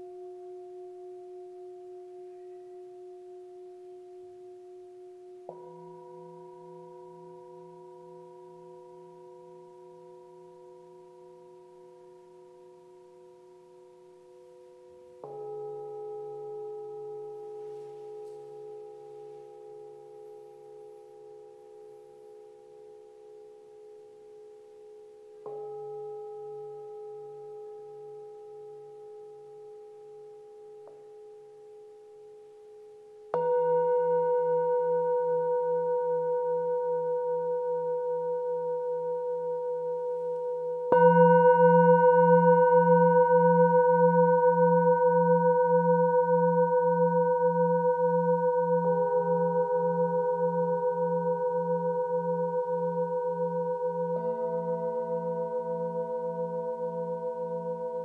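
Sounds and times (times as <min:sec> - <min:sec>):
singing bowls ringing: 0:00.0 - 0:32.4, 0:33.3 - 0:58.0.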